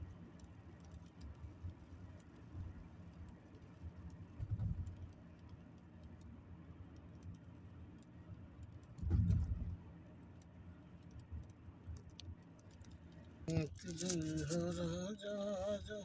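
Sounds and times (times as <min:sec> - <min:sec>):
faint ticks: 0:00.0 - 0:16.0
vehicle road noise rumble: 0:00.0 - 0:16.0.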